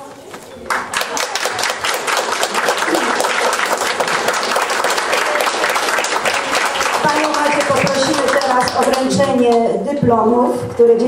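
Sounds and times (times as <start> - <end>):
audience applauding: 0.6 - 9.6.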